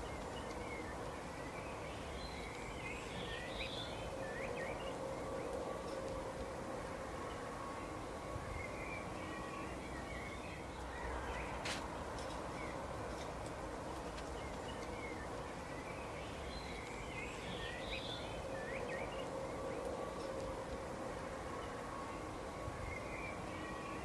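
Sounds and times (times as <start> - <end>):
faint hum: 0.0 - 24.0
small birds chirping: 0.0 - 24.0.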